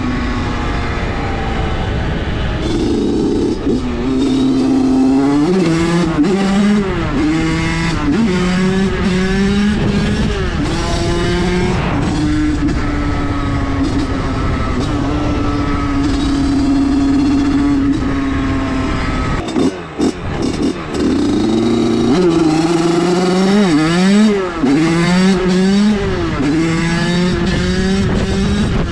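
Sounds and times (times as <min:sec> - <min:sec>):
two-stroke engine revving: 0:00.0 - 0:28.9.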